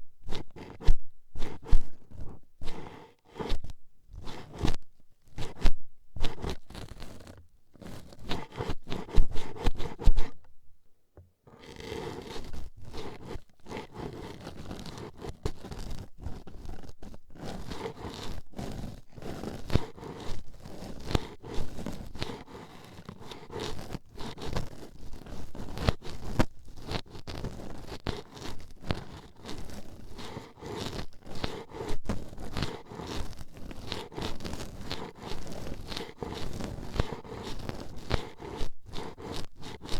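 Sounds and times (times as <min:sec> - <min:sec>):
toothpicks scraping microphone: 0:00.2 - 0:10.5, 0:17.4 - 0:39.9.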